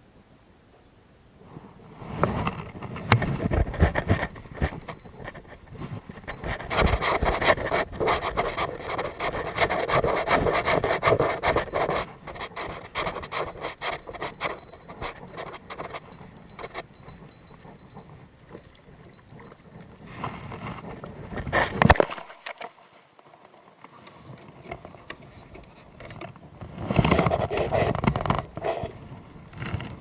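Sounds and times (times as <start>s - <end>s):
rough rubbing and scraping: 1.5s - 22.7s, 24.0s - 30.0s.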